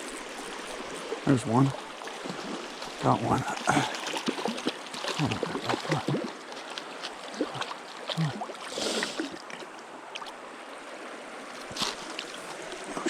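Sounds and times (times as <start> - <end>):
stream running and gurgling: 0.0 - 13.0.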